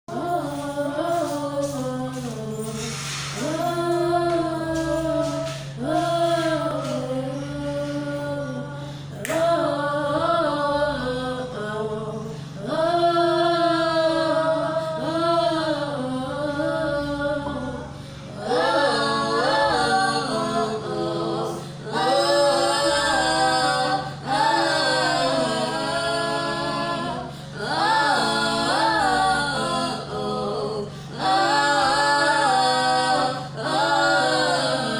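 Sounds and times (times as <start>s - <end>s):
voices singing a cappella: 0.1s - 34.9s.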